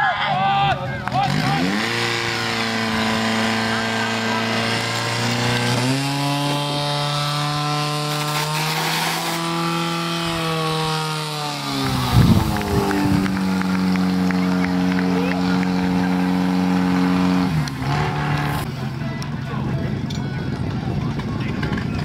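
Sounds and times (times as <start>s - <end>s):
fire pump engine running: 1.1s - 22.0s.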